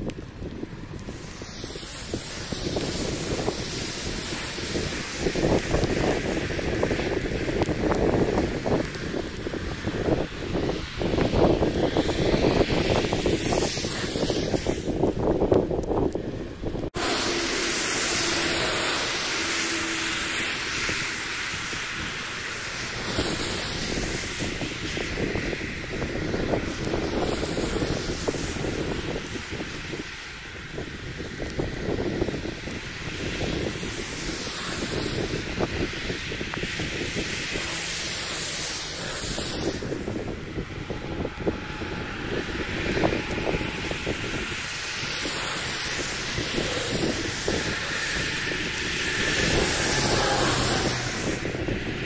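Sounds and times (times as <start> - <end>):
heavy rain on a car: 0.0 - 52.0
wind: 0.0 - 52.0
tyres hissing through water: 0.4 - 15.5, 16.9 - 52.0.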